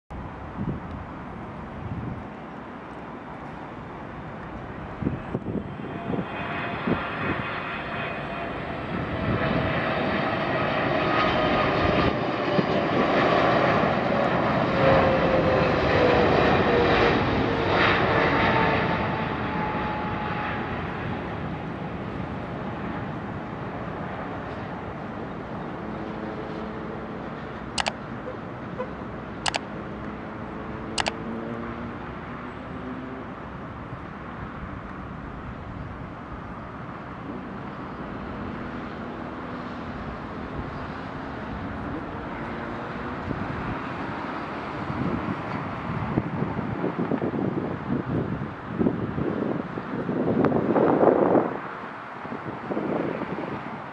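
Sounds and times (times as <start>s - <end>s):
jet engines passing close: 0.1s - 53.9s.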